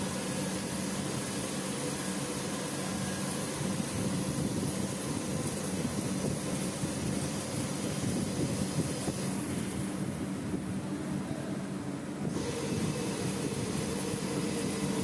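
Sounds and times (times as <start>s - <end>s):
constant machine hiss: 0.0s - 15.0s
lathe machine hum: 0.0s - 15.0s.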